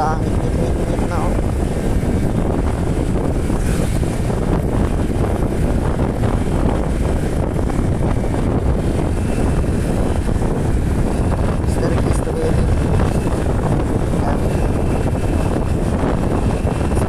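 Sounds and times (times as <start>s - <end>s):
motorcycle running: 0.0s - 17.0s
road noise: 0.0s - 17.0s
wind rush on microphone: 0.0s - 17.0s.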